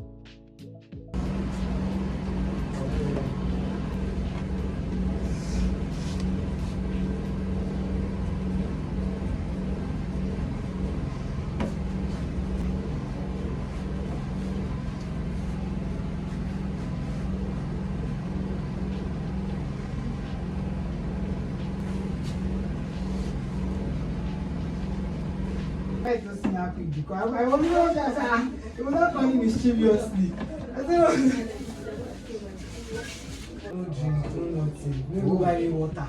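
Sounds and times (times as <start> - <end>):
low mechanical drone: 1.1 - 36.0.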